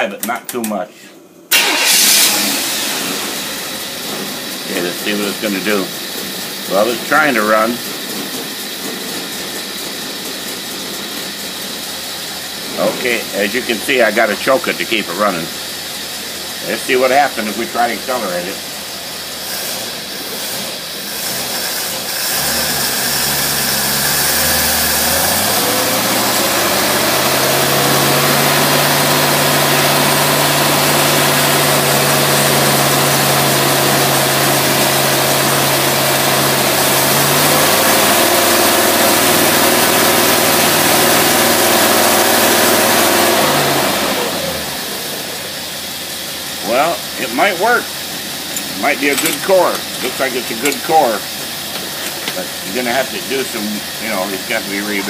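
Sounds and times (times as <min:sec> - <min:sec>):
engine revving: 0:01.5 - 0:55.0.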